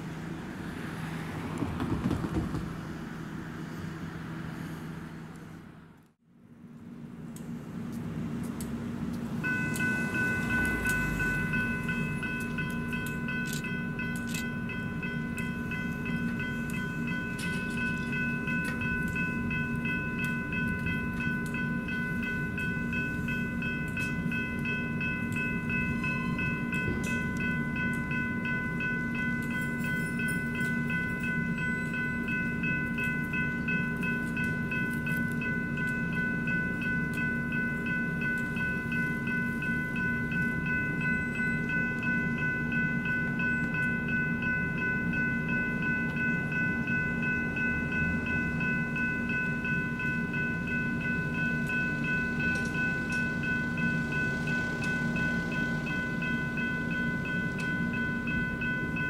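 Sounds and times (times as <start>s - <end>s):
electronic crossing bells ringing: 9.3s - 59.0s.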